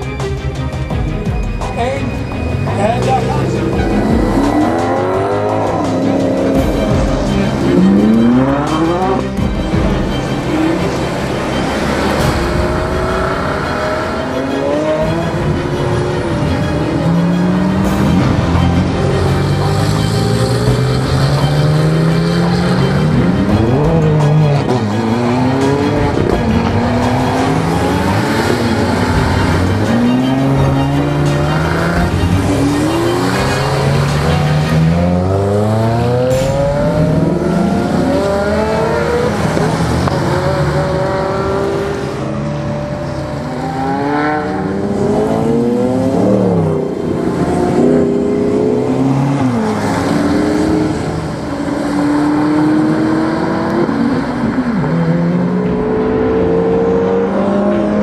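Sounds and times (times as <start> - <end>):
sports car engines revving: 1.6 - 58.0.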